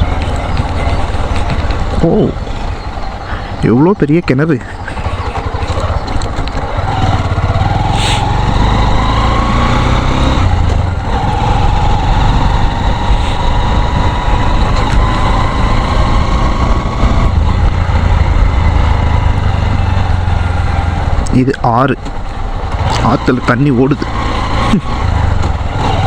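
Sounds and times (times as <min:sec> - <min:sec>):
motorcycle engine rumble: 0:00.0 - 0:26.0.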